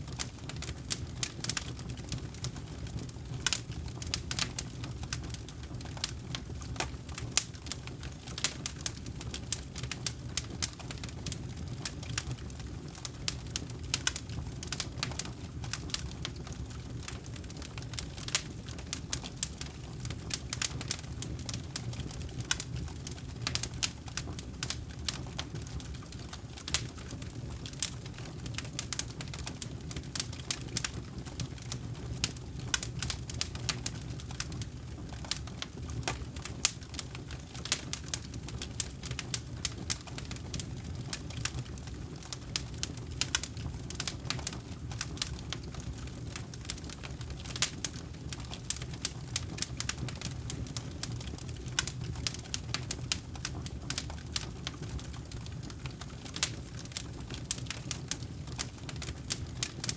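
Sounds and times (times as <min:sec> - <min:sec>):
low rumble of flames: 0:00.0 - 0:59.9
campfire crackling and popping: 0:00.1 - 0:59.9.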